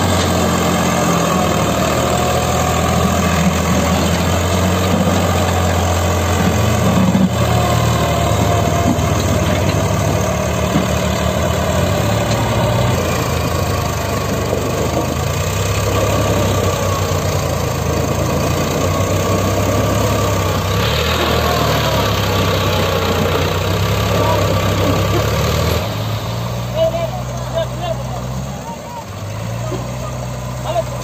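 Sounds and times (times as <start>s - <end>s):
tractor diesel engine labouring: 0.0s - 31.0s.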